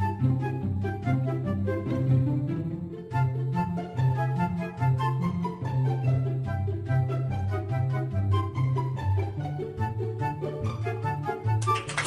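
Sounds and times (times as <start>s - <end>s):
string bass line: 0.0s - 11.6s
background music melody: 0.0s - 12.0s.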